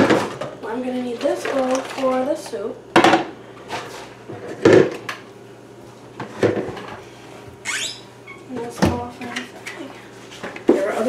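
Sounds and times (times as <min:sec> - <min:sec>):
mixing bowls knocking and clattering: 0:00.0 - 0:05.3, 0:06.1 - 0:07.6, 0:08.4 - 0:11.0.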